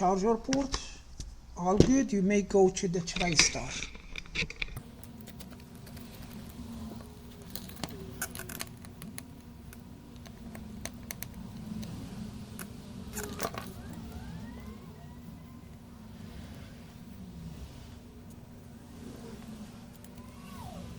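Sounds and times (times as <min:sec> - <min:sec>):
low hum: 0:00.0 - 0:20.9.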